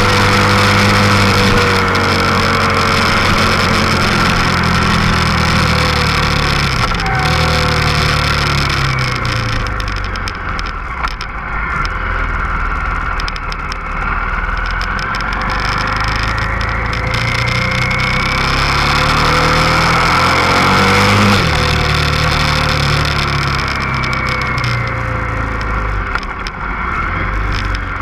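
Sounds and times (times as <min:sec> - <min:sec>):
motorcycle engine: 0:00.0 - 0:28.0.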